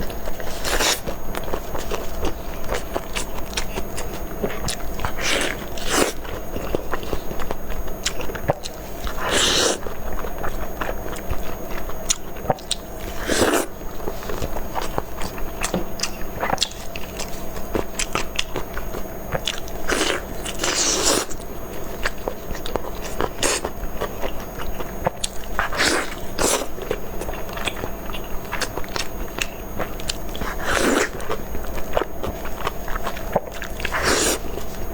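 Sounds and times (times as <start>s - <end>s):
person biting and chewing food: 0.0s - 34.9s.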